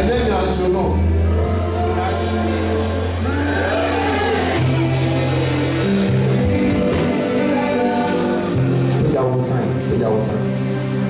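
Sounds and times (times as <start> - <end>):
slow church music: 0.0 - 11.0.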